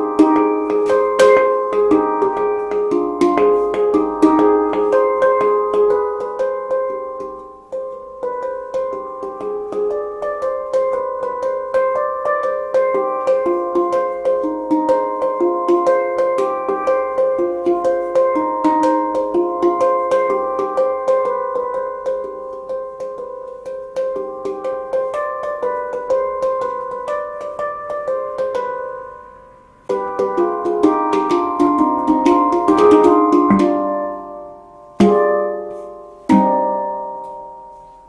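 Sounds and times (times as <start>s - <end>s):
handpan notes ringing: 0.0s - 38.0s.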